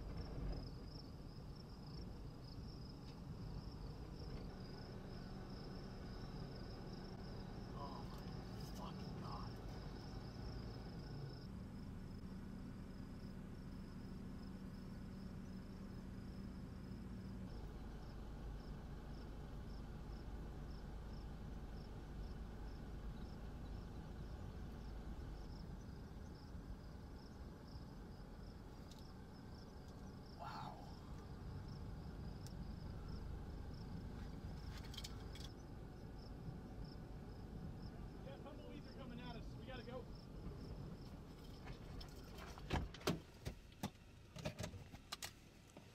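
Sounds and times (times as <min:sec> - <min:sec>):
insects chirping: 0:00.0 - 0:44.3
low steady rumble: 0:00.0 - 0:44.3.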